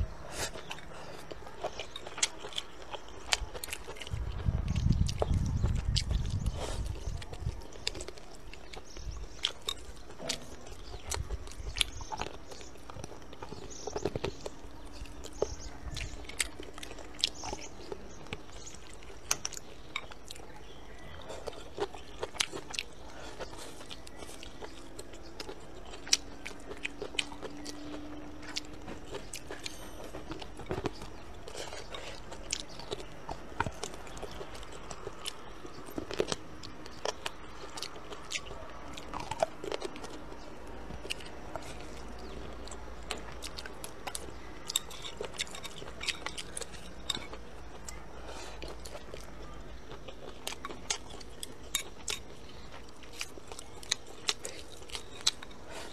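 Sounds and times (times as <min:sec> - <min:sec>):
chewing food close up: 0:00.0 - 0:55.9.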